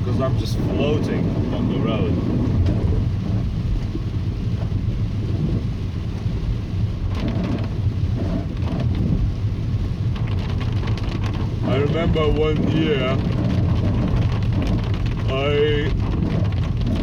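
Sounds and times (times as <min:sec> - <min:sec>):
heavy water splashes: 0:00.0 - 0:17.0
water surging against car: 0:00.0 - 0:17.0.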